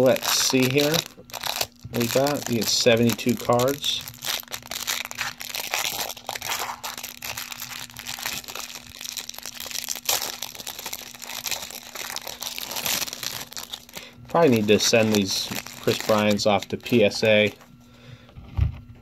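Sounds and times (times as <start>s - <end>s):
plastic wrapper crinkling and tearing: 0.0s - 17.7s
faint steady hum: 0.0s - 19.0s.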